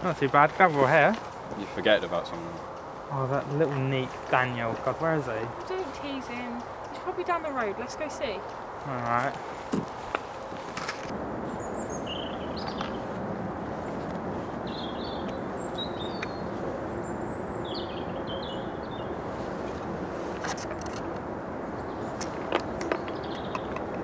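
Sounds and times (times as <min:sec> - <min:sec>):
small birds chirping: 0:00.0 - 0:10.8, 0:11.5 - 0:19.8, 0:20.4 - 0:24.0
outdoor background noise: 0:00.0 - 0:24.0.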